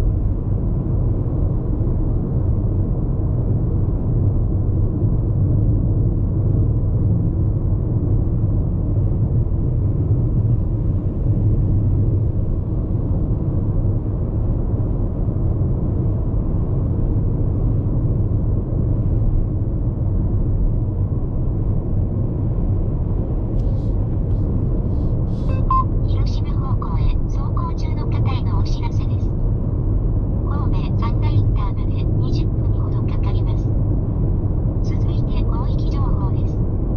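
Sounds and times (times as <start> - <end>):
car road rumble and tyre noise: 0.0 - 36.9.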